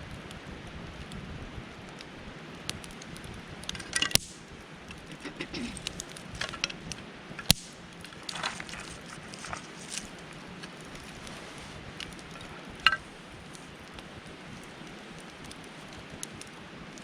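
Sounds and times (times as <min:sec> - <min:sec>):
campfire crackling: 0:00.0 - 0:17.0
sharp fire pops: 0:00.1 - 0:17.0.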